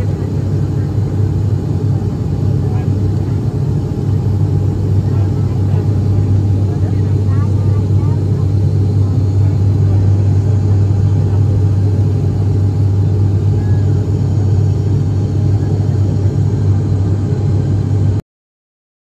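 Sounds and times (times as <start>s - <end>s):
turboprop engine drone in cabin: 0.0s - 18.2s.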